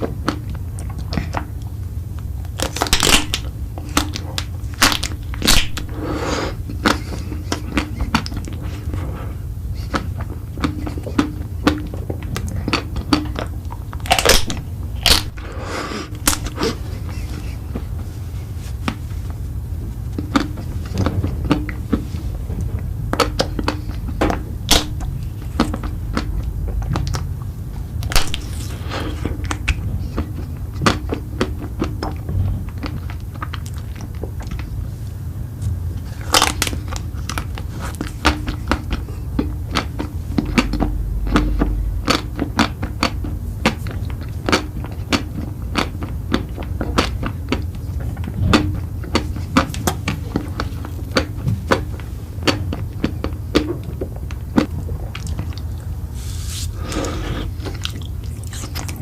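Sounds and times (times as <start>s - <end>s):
crunchy chewing: 0.0s - 59.0s
steady low hum: 0.0s - 59.0s.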